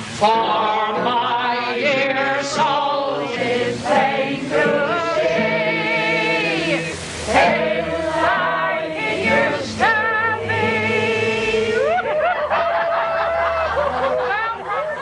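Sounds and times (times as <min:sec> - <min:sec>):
group singing a folk song: 0:00.0 - 0:12.2.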